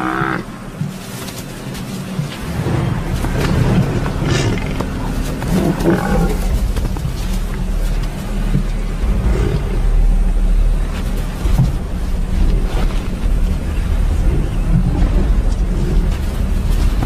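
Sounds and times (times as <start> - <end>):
lions growling: 0.0 - 0.5, 2.0 - 17.0.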